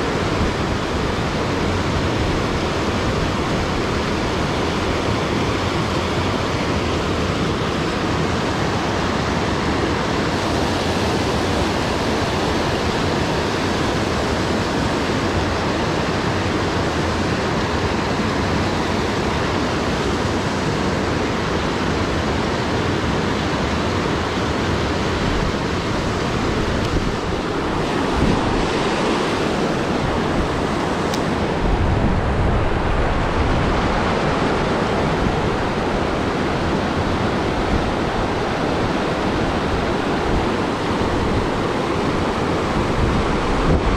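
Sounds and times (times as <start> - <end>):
water rushing over rocks: 0.0 - 43.9
wind rumble on microphone: 0.0 - 43.9.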